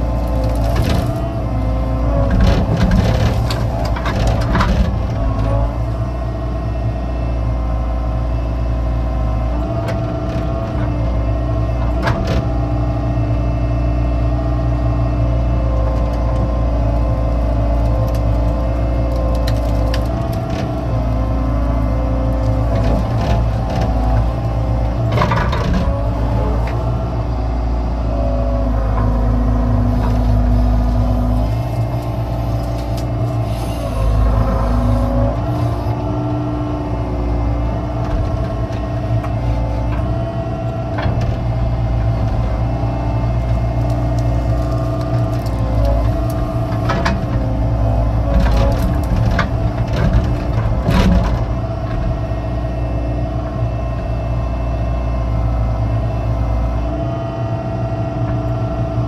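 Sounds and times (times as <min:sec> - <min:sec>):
excavator diesel engine: 0:00.0 - 0:59.0
hydraulic whine: 0:00.0 - 0:59.0.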